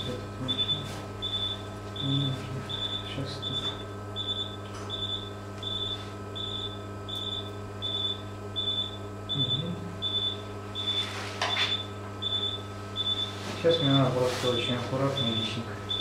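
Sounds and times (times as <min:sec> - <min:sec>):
electrical hum: 0:00.0 - 0:16.0
patient monitor beeping: 0:00.0 - 0:16.0.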